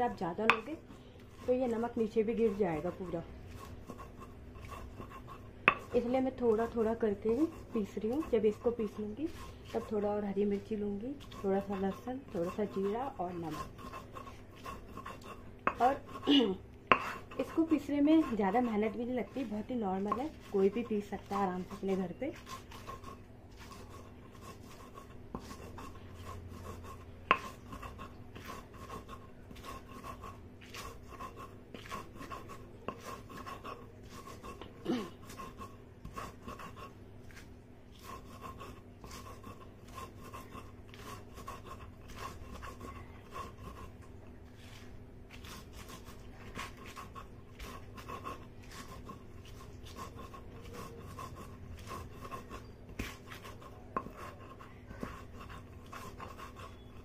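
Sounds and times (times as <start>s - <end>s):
grinding stone rubbing and knocking: 0.0s - 57.0s.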